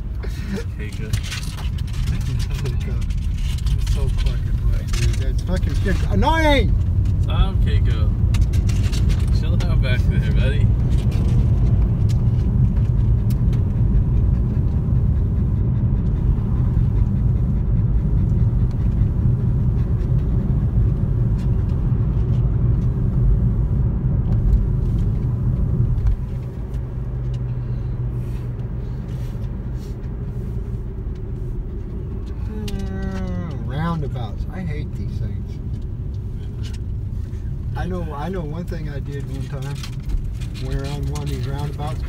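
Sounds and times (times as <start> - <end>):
car tyres and engine rumble: 0.0 - 42.0.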